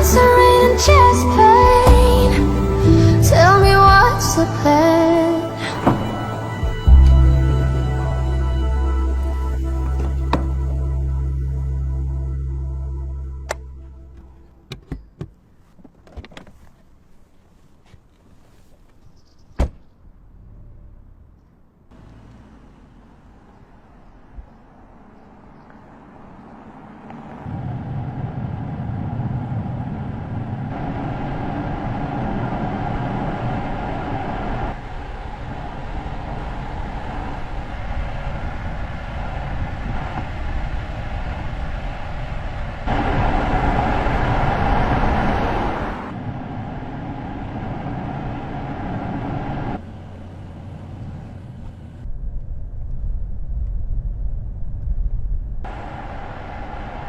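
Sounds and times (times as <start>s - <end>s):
vehicle or machinery running hum: 0.0s - 15.2s, 20.2s - 57.0s.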